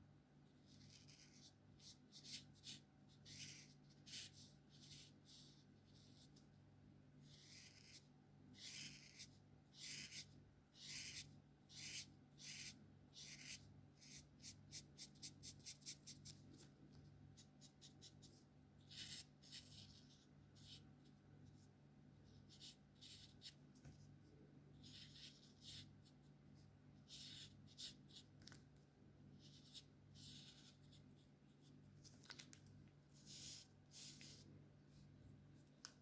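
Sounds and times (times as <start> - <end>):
marker strokes on paper: 0.6 - 6.5, 7.2 - 24.1, 24.8 - 28.3, 29.4 - 32.4, 33.1 - 35.1.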